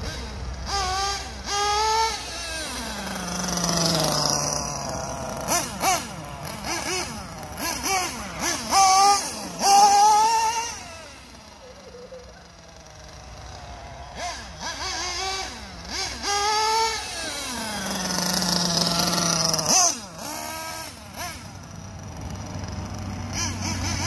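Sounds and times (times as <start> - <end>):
small nitro engine revving: 0.0 - 24.0.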